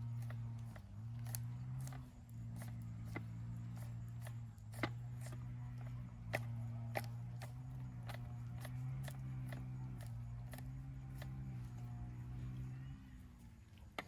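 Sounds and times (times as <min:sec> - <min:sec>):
sharp clicks and ticks: 0:00.0 - 0:11.8
wavering low hum: 0:00.0 - 0:13.7.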